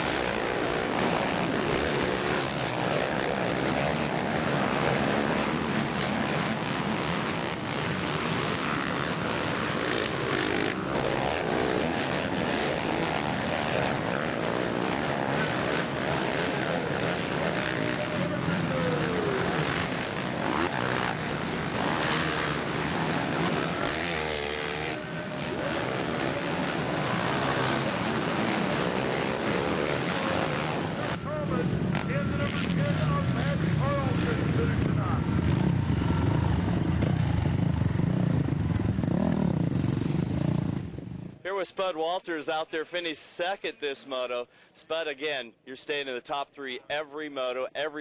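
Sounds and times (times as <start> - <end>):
motocross bikes revving: 0.0 - 41.4.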